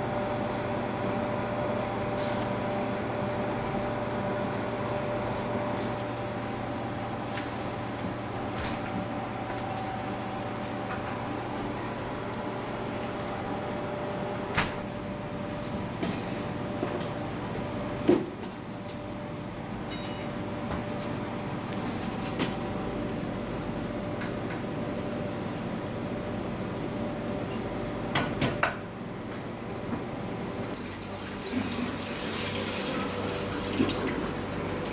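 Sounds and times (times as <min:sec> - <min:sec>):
steady machine hum: 0:00.0 - 0:28.2, 0:28.9 - 0:34.9.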